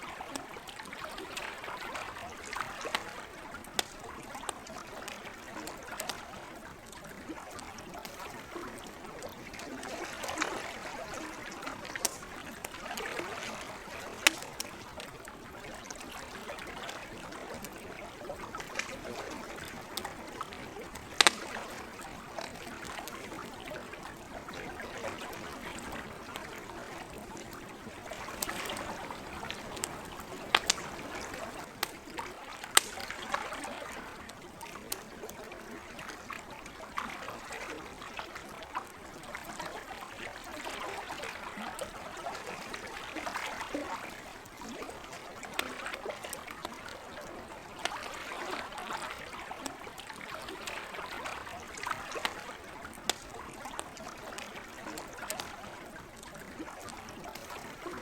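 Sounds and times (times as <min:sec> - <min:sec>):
gentle lake water: 0:00.0 - 0:58.0
campfire crackling and popping: 0:00.1 - 0:58.0.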